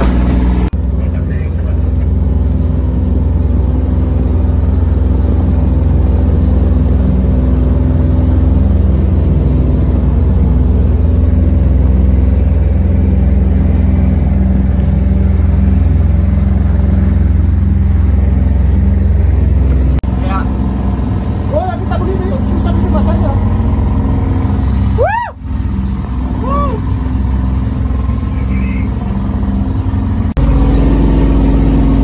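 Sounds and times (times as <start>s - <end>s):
diesel boat engine droning: 0.0s - 32.0s.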